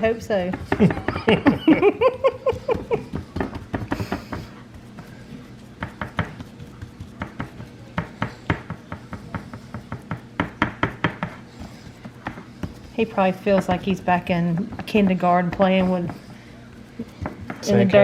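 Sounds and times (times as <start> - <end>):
fingers tapping a dish: 0.0 - 17.6.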